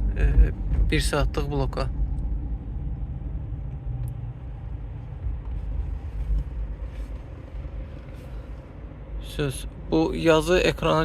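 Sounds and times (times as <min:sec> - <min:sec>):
engine noise: 0:00.0 - 0:11.0
road noise: 0:00.0 - 0:11.0.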